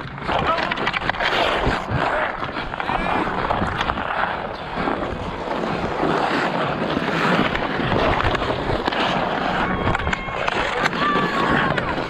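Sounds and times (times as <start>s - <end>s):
ice skates scraping on ice: 0.0s - 12.0s
wind buffeting microphone: 0.0s - 12.0s.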